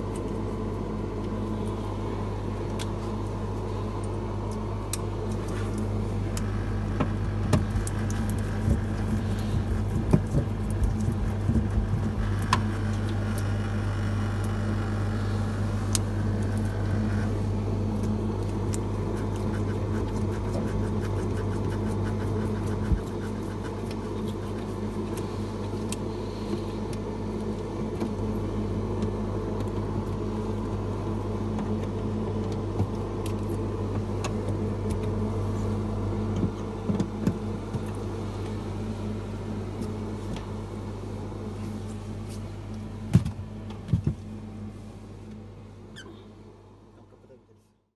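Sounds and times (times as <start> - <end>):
refrigerator humming: 0.0 - 47.9.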